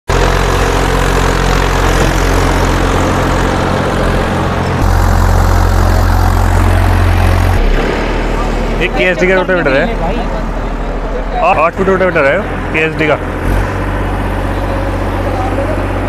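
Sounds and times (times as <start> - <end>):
tractor diesel engine under load: 0.1 - 16.0.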